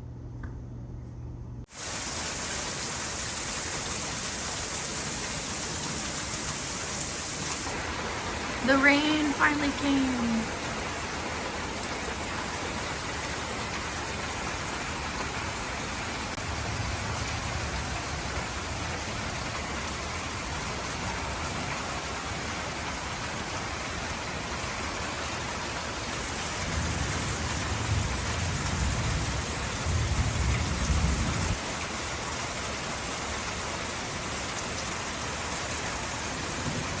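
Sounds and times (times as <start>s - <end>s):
steady rain falling: 1.7s - 37.0s.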